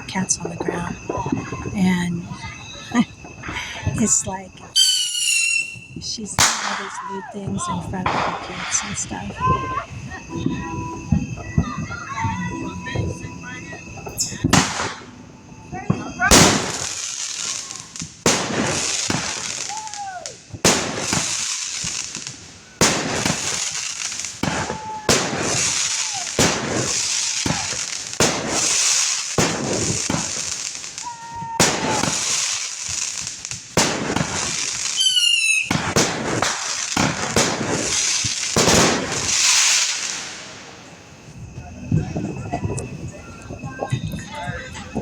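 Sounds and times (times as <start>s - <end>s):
fireworks bangs: 0.0s - 45.0s
fireworks crackling hiss: 0.0s - 45.0s
fireworks whistle: 0.0s - 45.0s.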